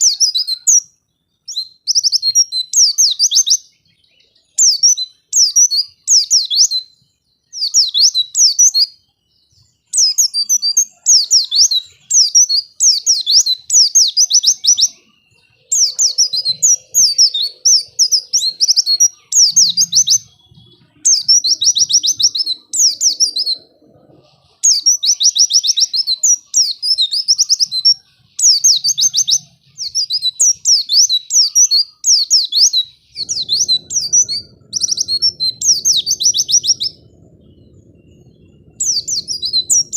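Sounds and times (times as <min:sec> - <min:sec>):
bird high chirping song: 0:00.0 - 0:39.9.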